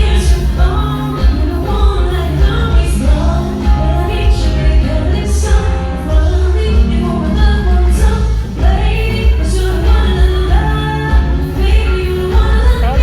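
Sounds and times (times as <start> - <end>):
live band with singing: 0.0 - 13.0.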